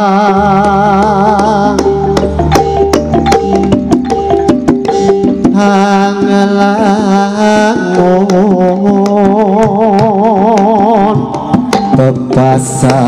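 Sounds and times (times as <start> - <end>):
person singing long wavering notes: 0.0 - 3.7, 4.8 - 13.0
band pitched instruments: 0.0 - 13.0
hand drum strokes: 0.0 - 13.0.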